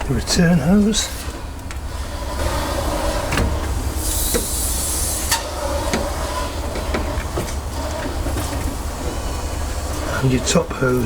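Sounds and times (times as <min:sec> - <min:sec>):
rubber hose scraping: 0:00.0 - 0:11.0.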